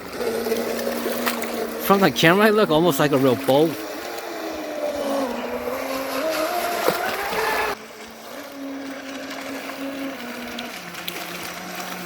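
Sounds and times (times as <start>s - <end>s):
boat motor whining: 0.0s - 12.0s
water rushing at hull: 0.0s - 12.0s.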